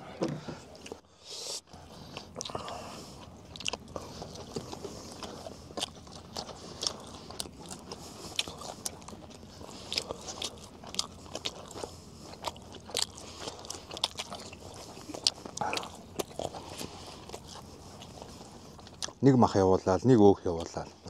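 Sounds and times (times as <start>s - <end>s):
person chewing meat: 0.4s - 19.2s.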